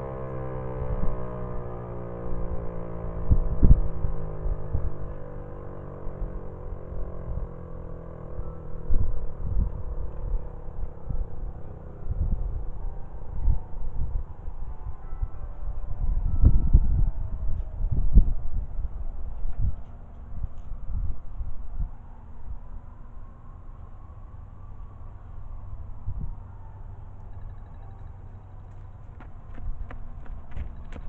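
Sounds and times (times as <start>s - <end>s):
wind buffeting microphone: 0.0s - 7.7s, 8.3s - 22.8s, 25.5s - 26.7s, 28.9s - 31.0s
warning siren winding down: 0.0s - 31.0s.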